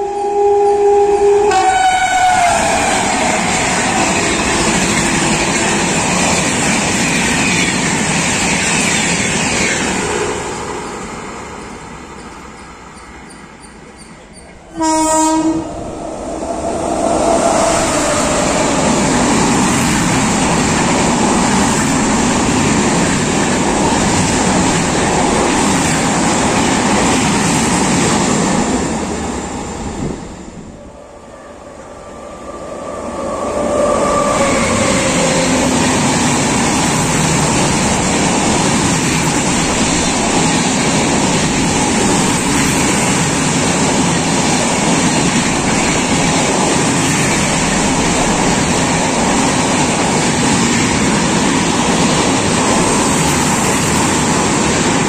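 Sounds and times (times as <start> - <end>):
express train rushing past: 0.0 - 55.0.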